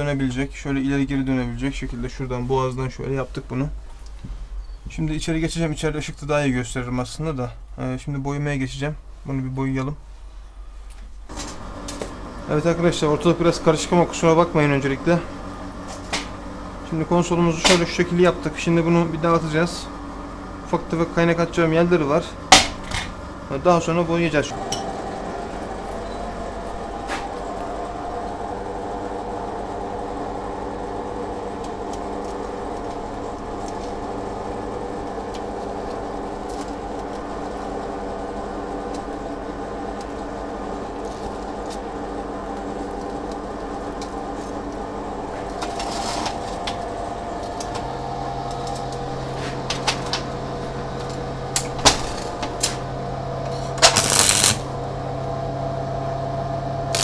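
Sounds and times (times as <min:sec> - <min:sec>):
machine hum: 0:10.0 - 0:57.0.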